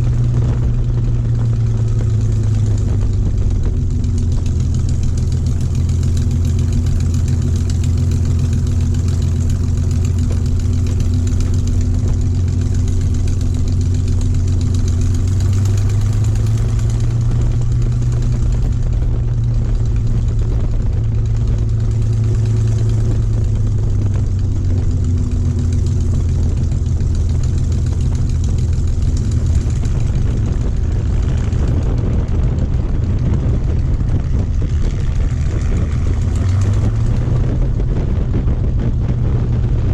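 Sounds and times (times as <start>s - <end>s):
aircraft piston engine droning: 0.0s - 39.9s.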